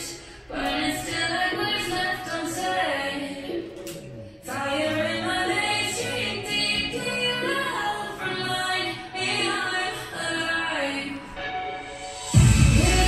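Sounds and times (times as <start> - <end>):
woman singing slow melody: 0.0 - 11.7.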